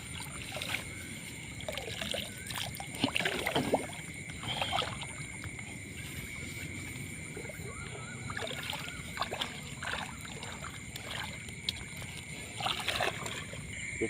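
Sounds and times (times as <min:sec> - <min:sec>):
water splashing and sloshing: 0:00.0 - 0:13.9.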